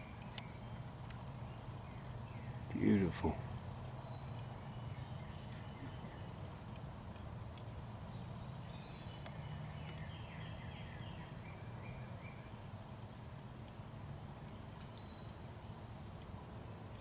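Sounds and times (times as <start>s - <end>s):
songbird singing: 0.0s - 13.3s, 14.4s - 17.0s.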